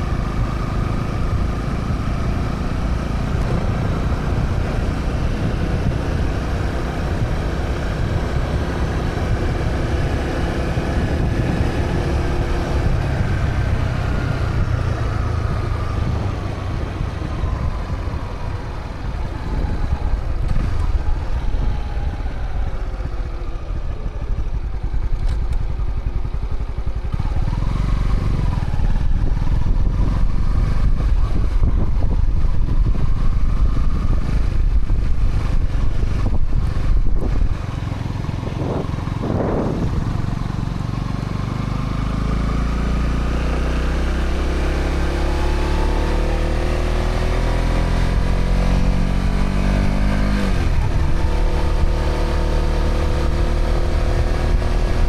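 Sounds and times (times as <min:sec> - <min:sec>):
wind on microphone: 0:00.0 - 0:23.4, 0:27.1 - 0:41.3, 0:43.6 - 0:55.0
motorcycle engine revving: 0:00.0 - 0:55.0.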